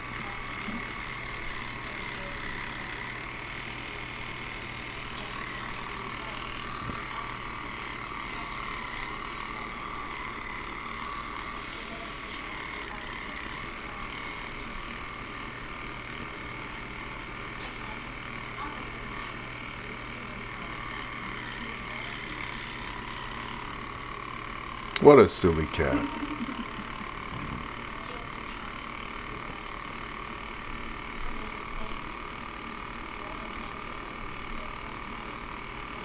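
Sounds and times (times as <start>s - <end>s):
electric toothbrush buzzing: 0.0s - 36.0s.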